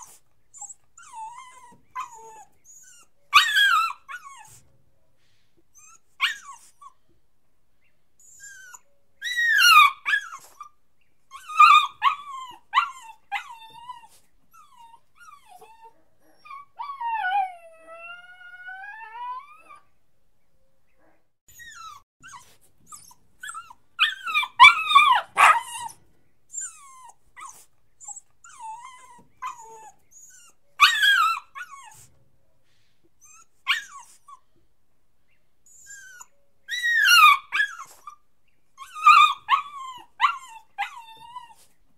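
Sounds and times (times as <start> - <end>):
puppy whining and yelping: 0.0 - 4.8, 5.7 - 7.1, 8.2 - 19.9, 21.5 - 32.2, 33.2 - 34.6, 35.6 - 41.8.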